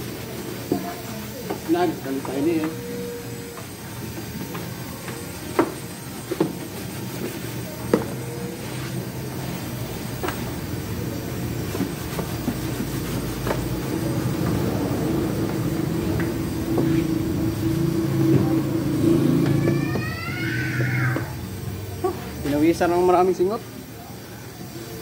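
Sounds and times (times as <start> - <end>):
machine humming: 1.0 - 23.3.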